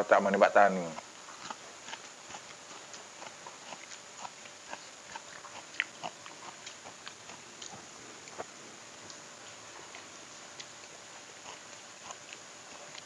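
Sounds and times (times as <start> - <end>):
wet chewing mouth clicks: 0.9 - 13.0.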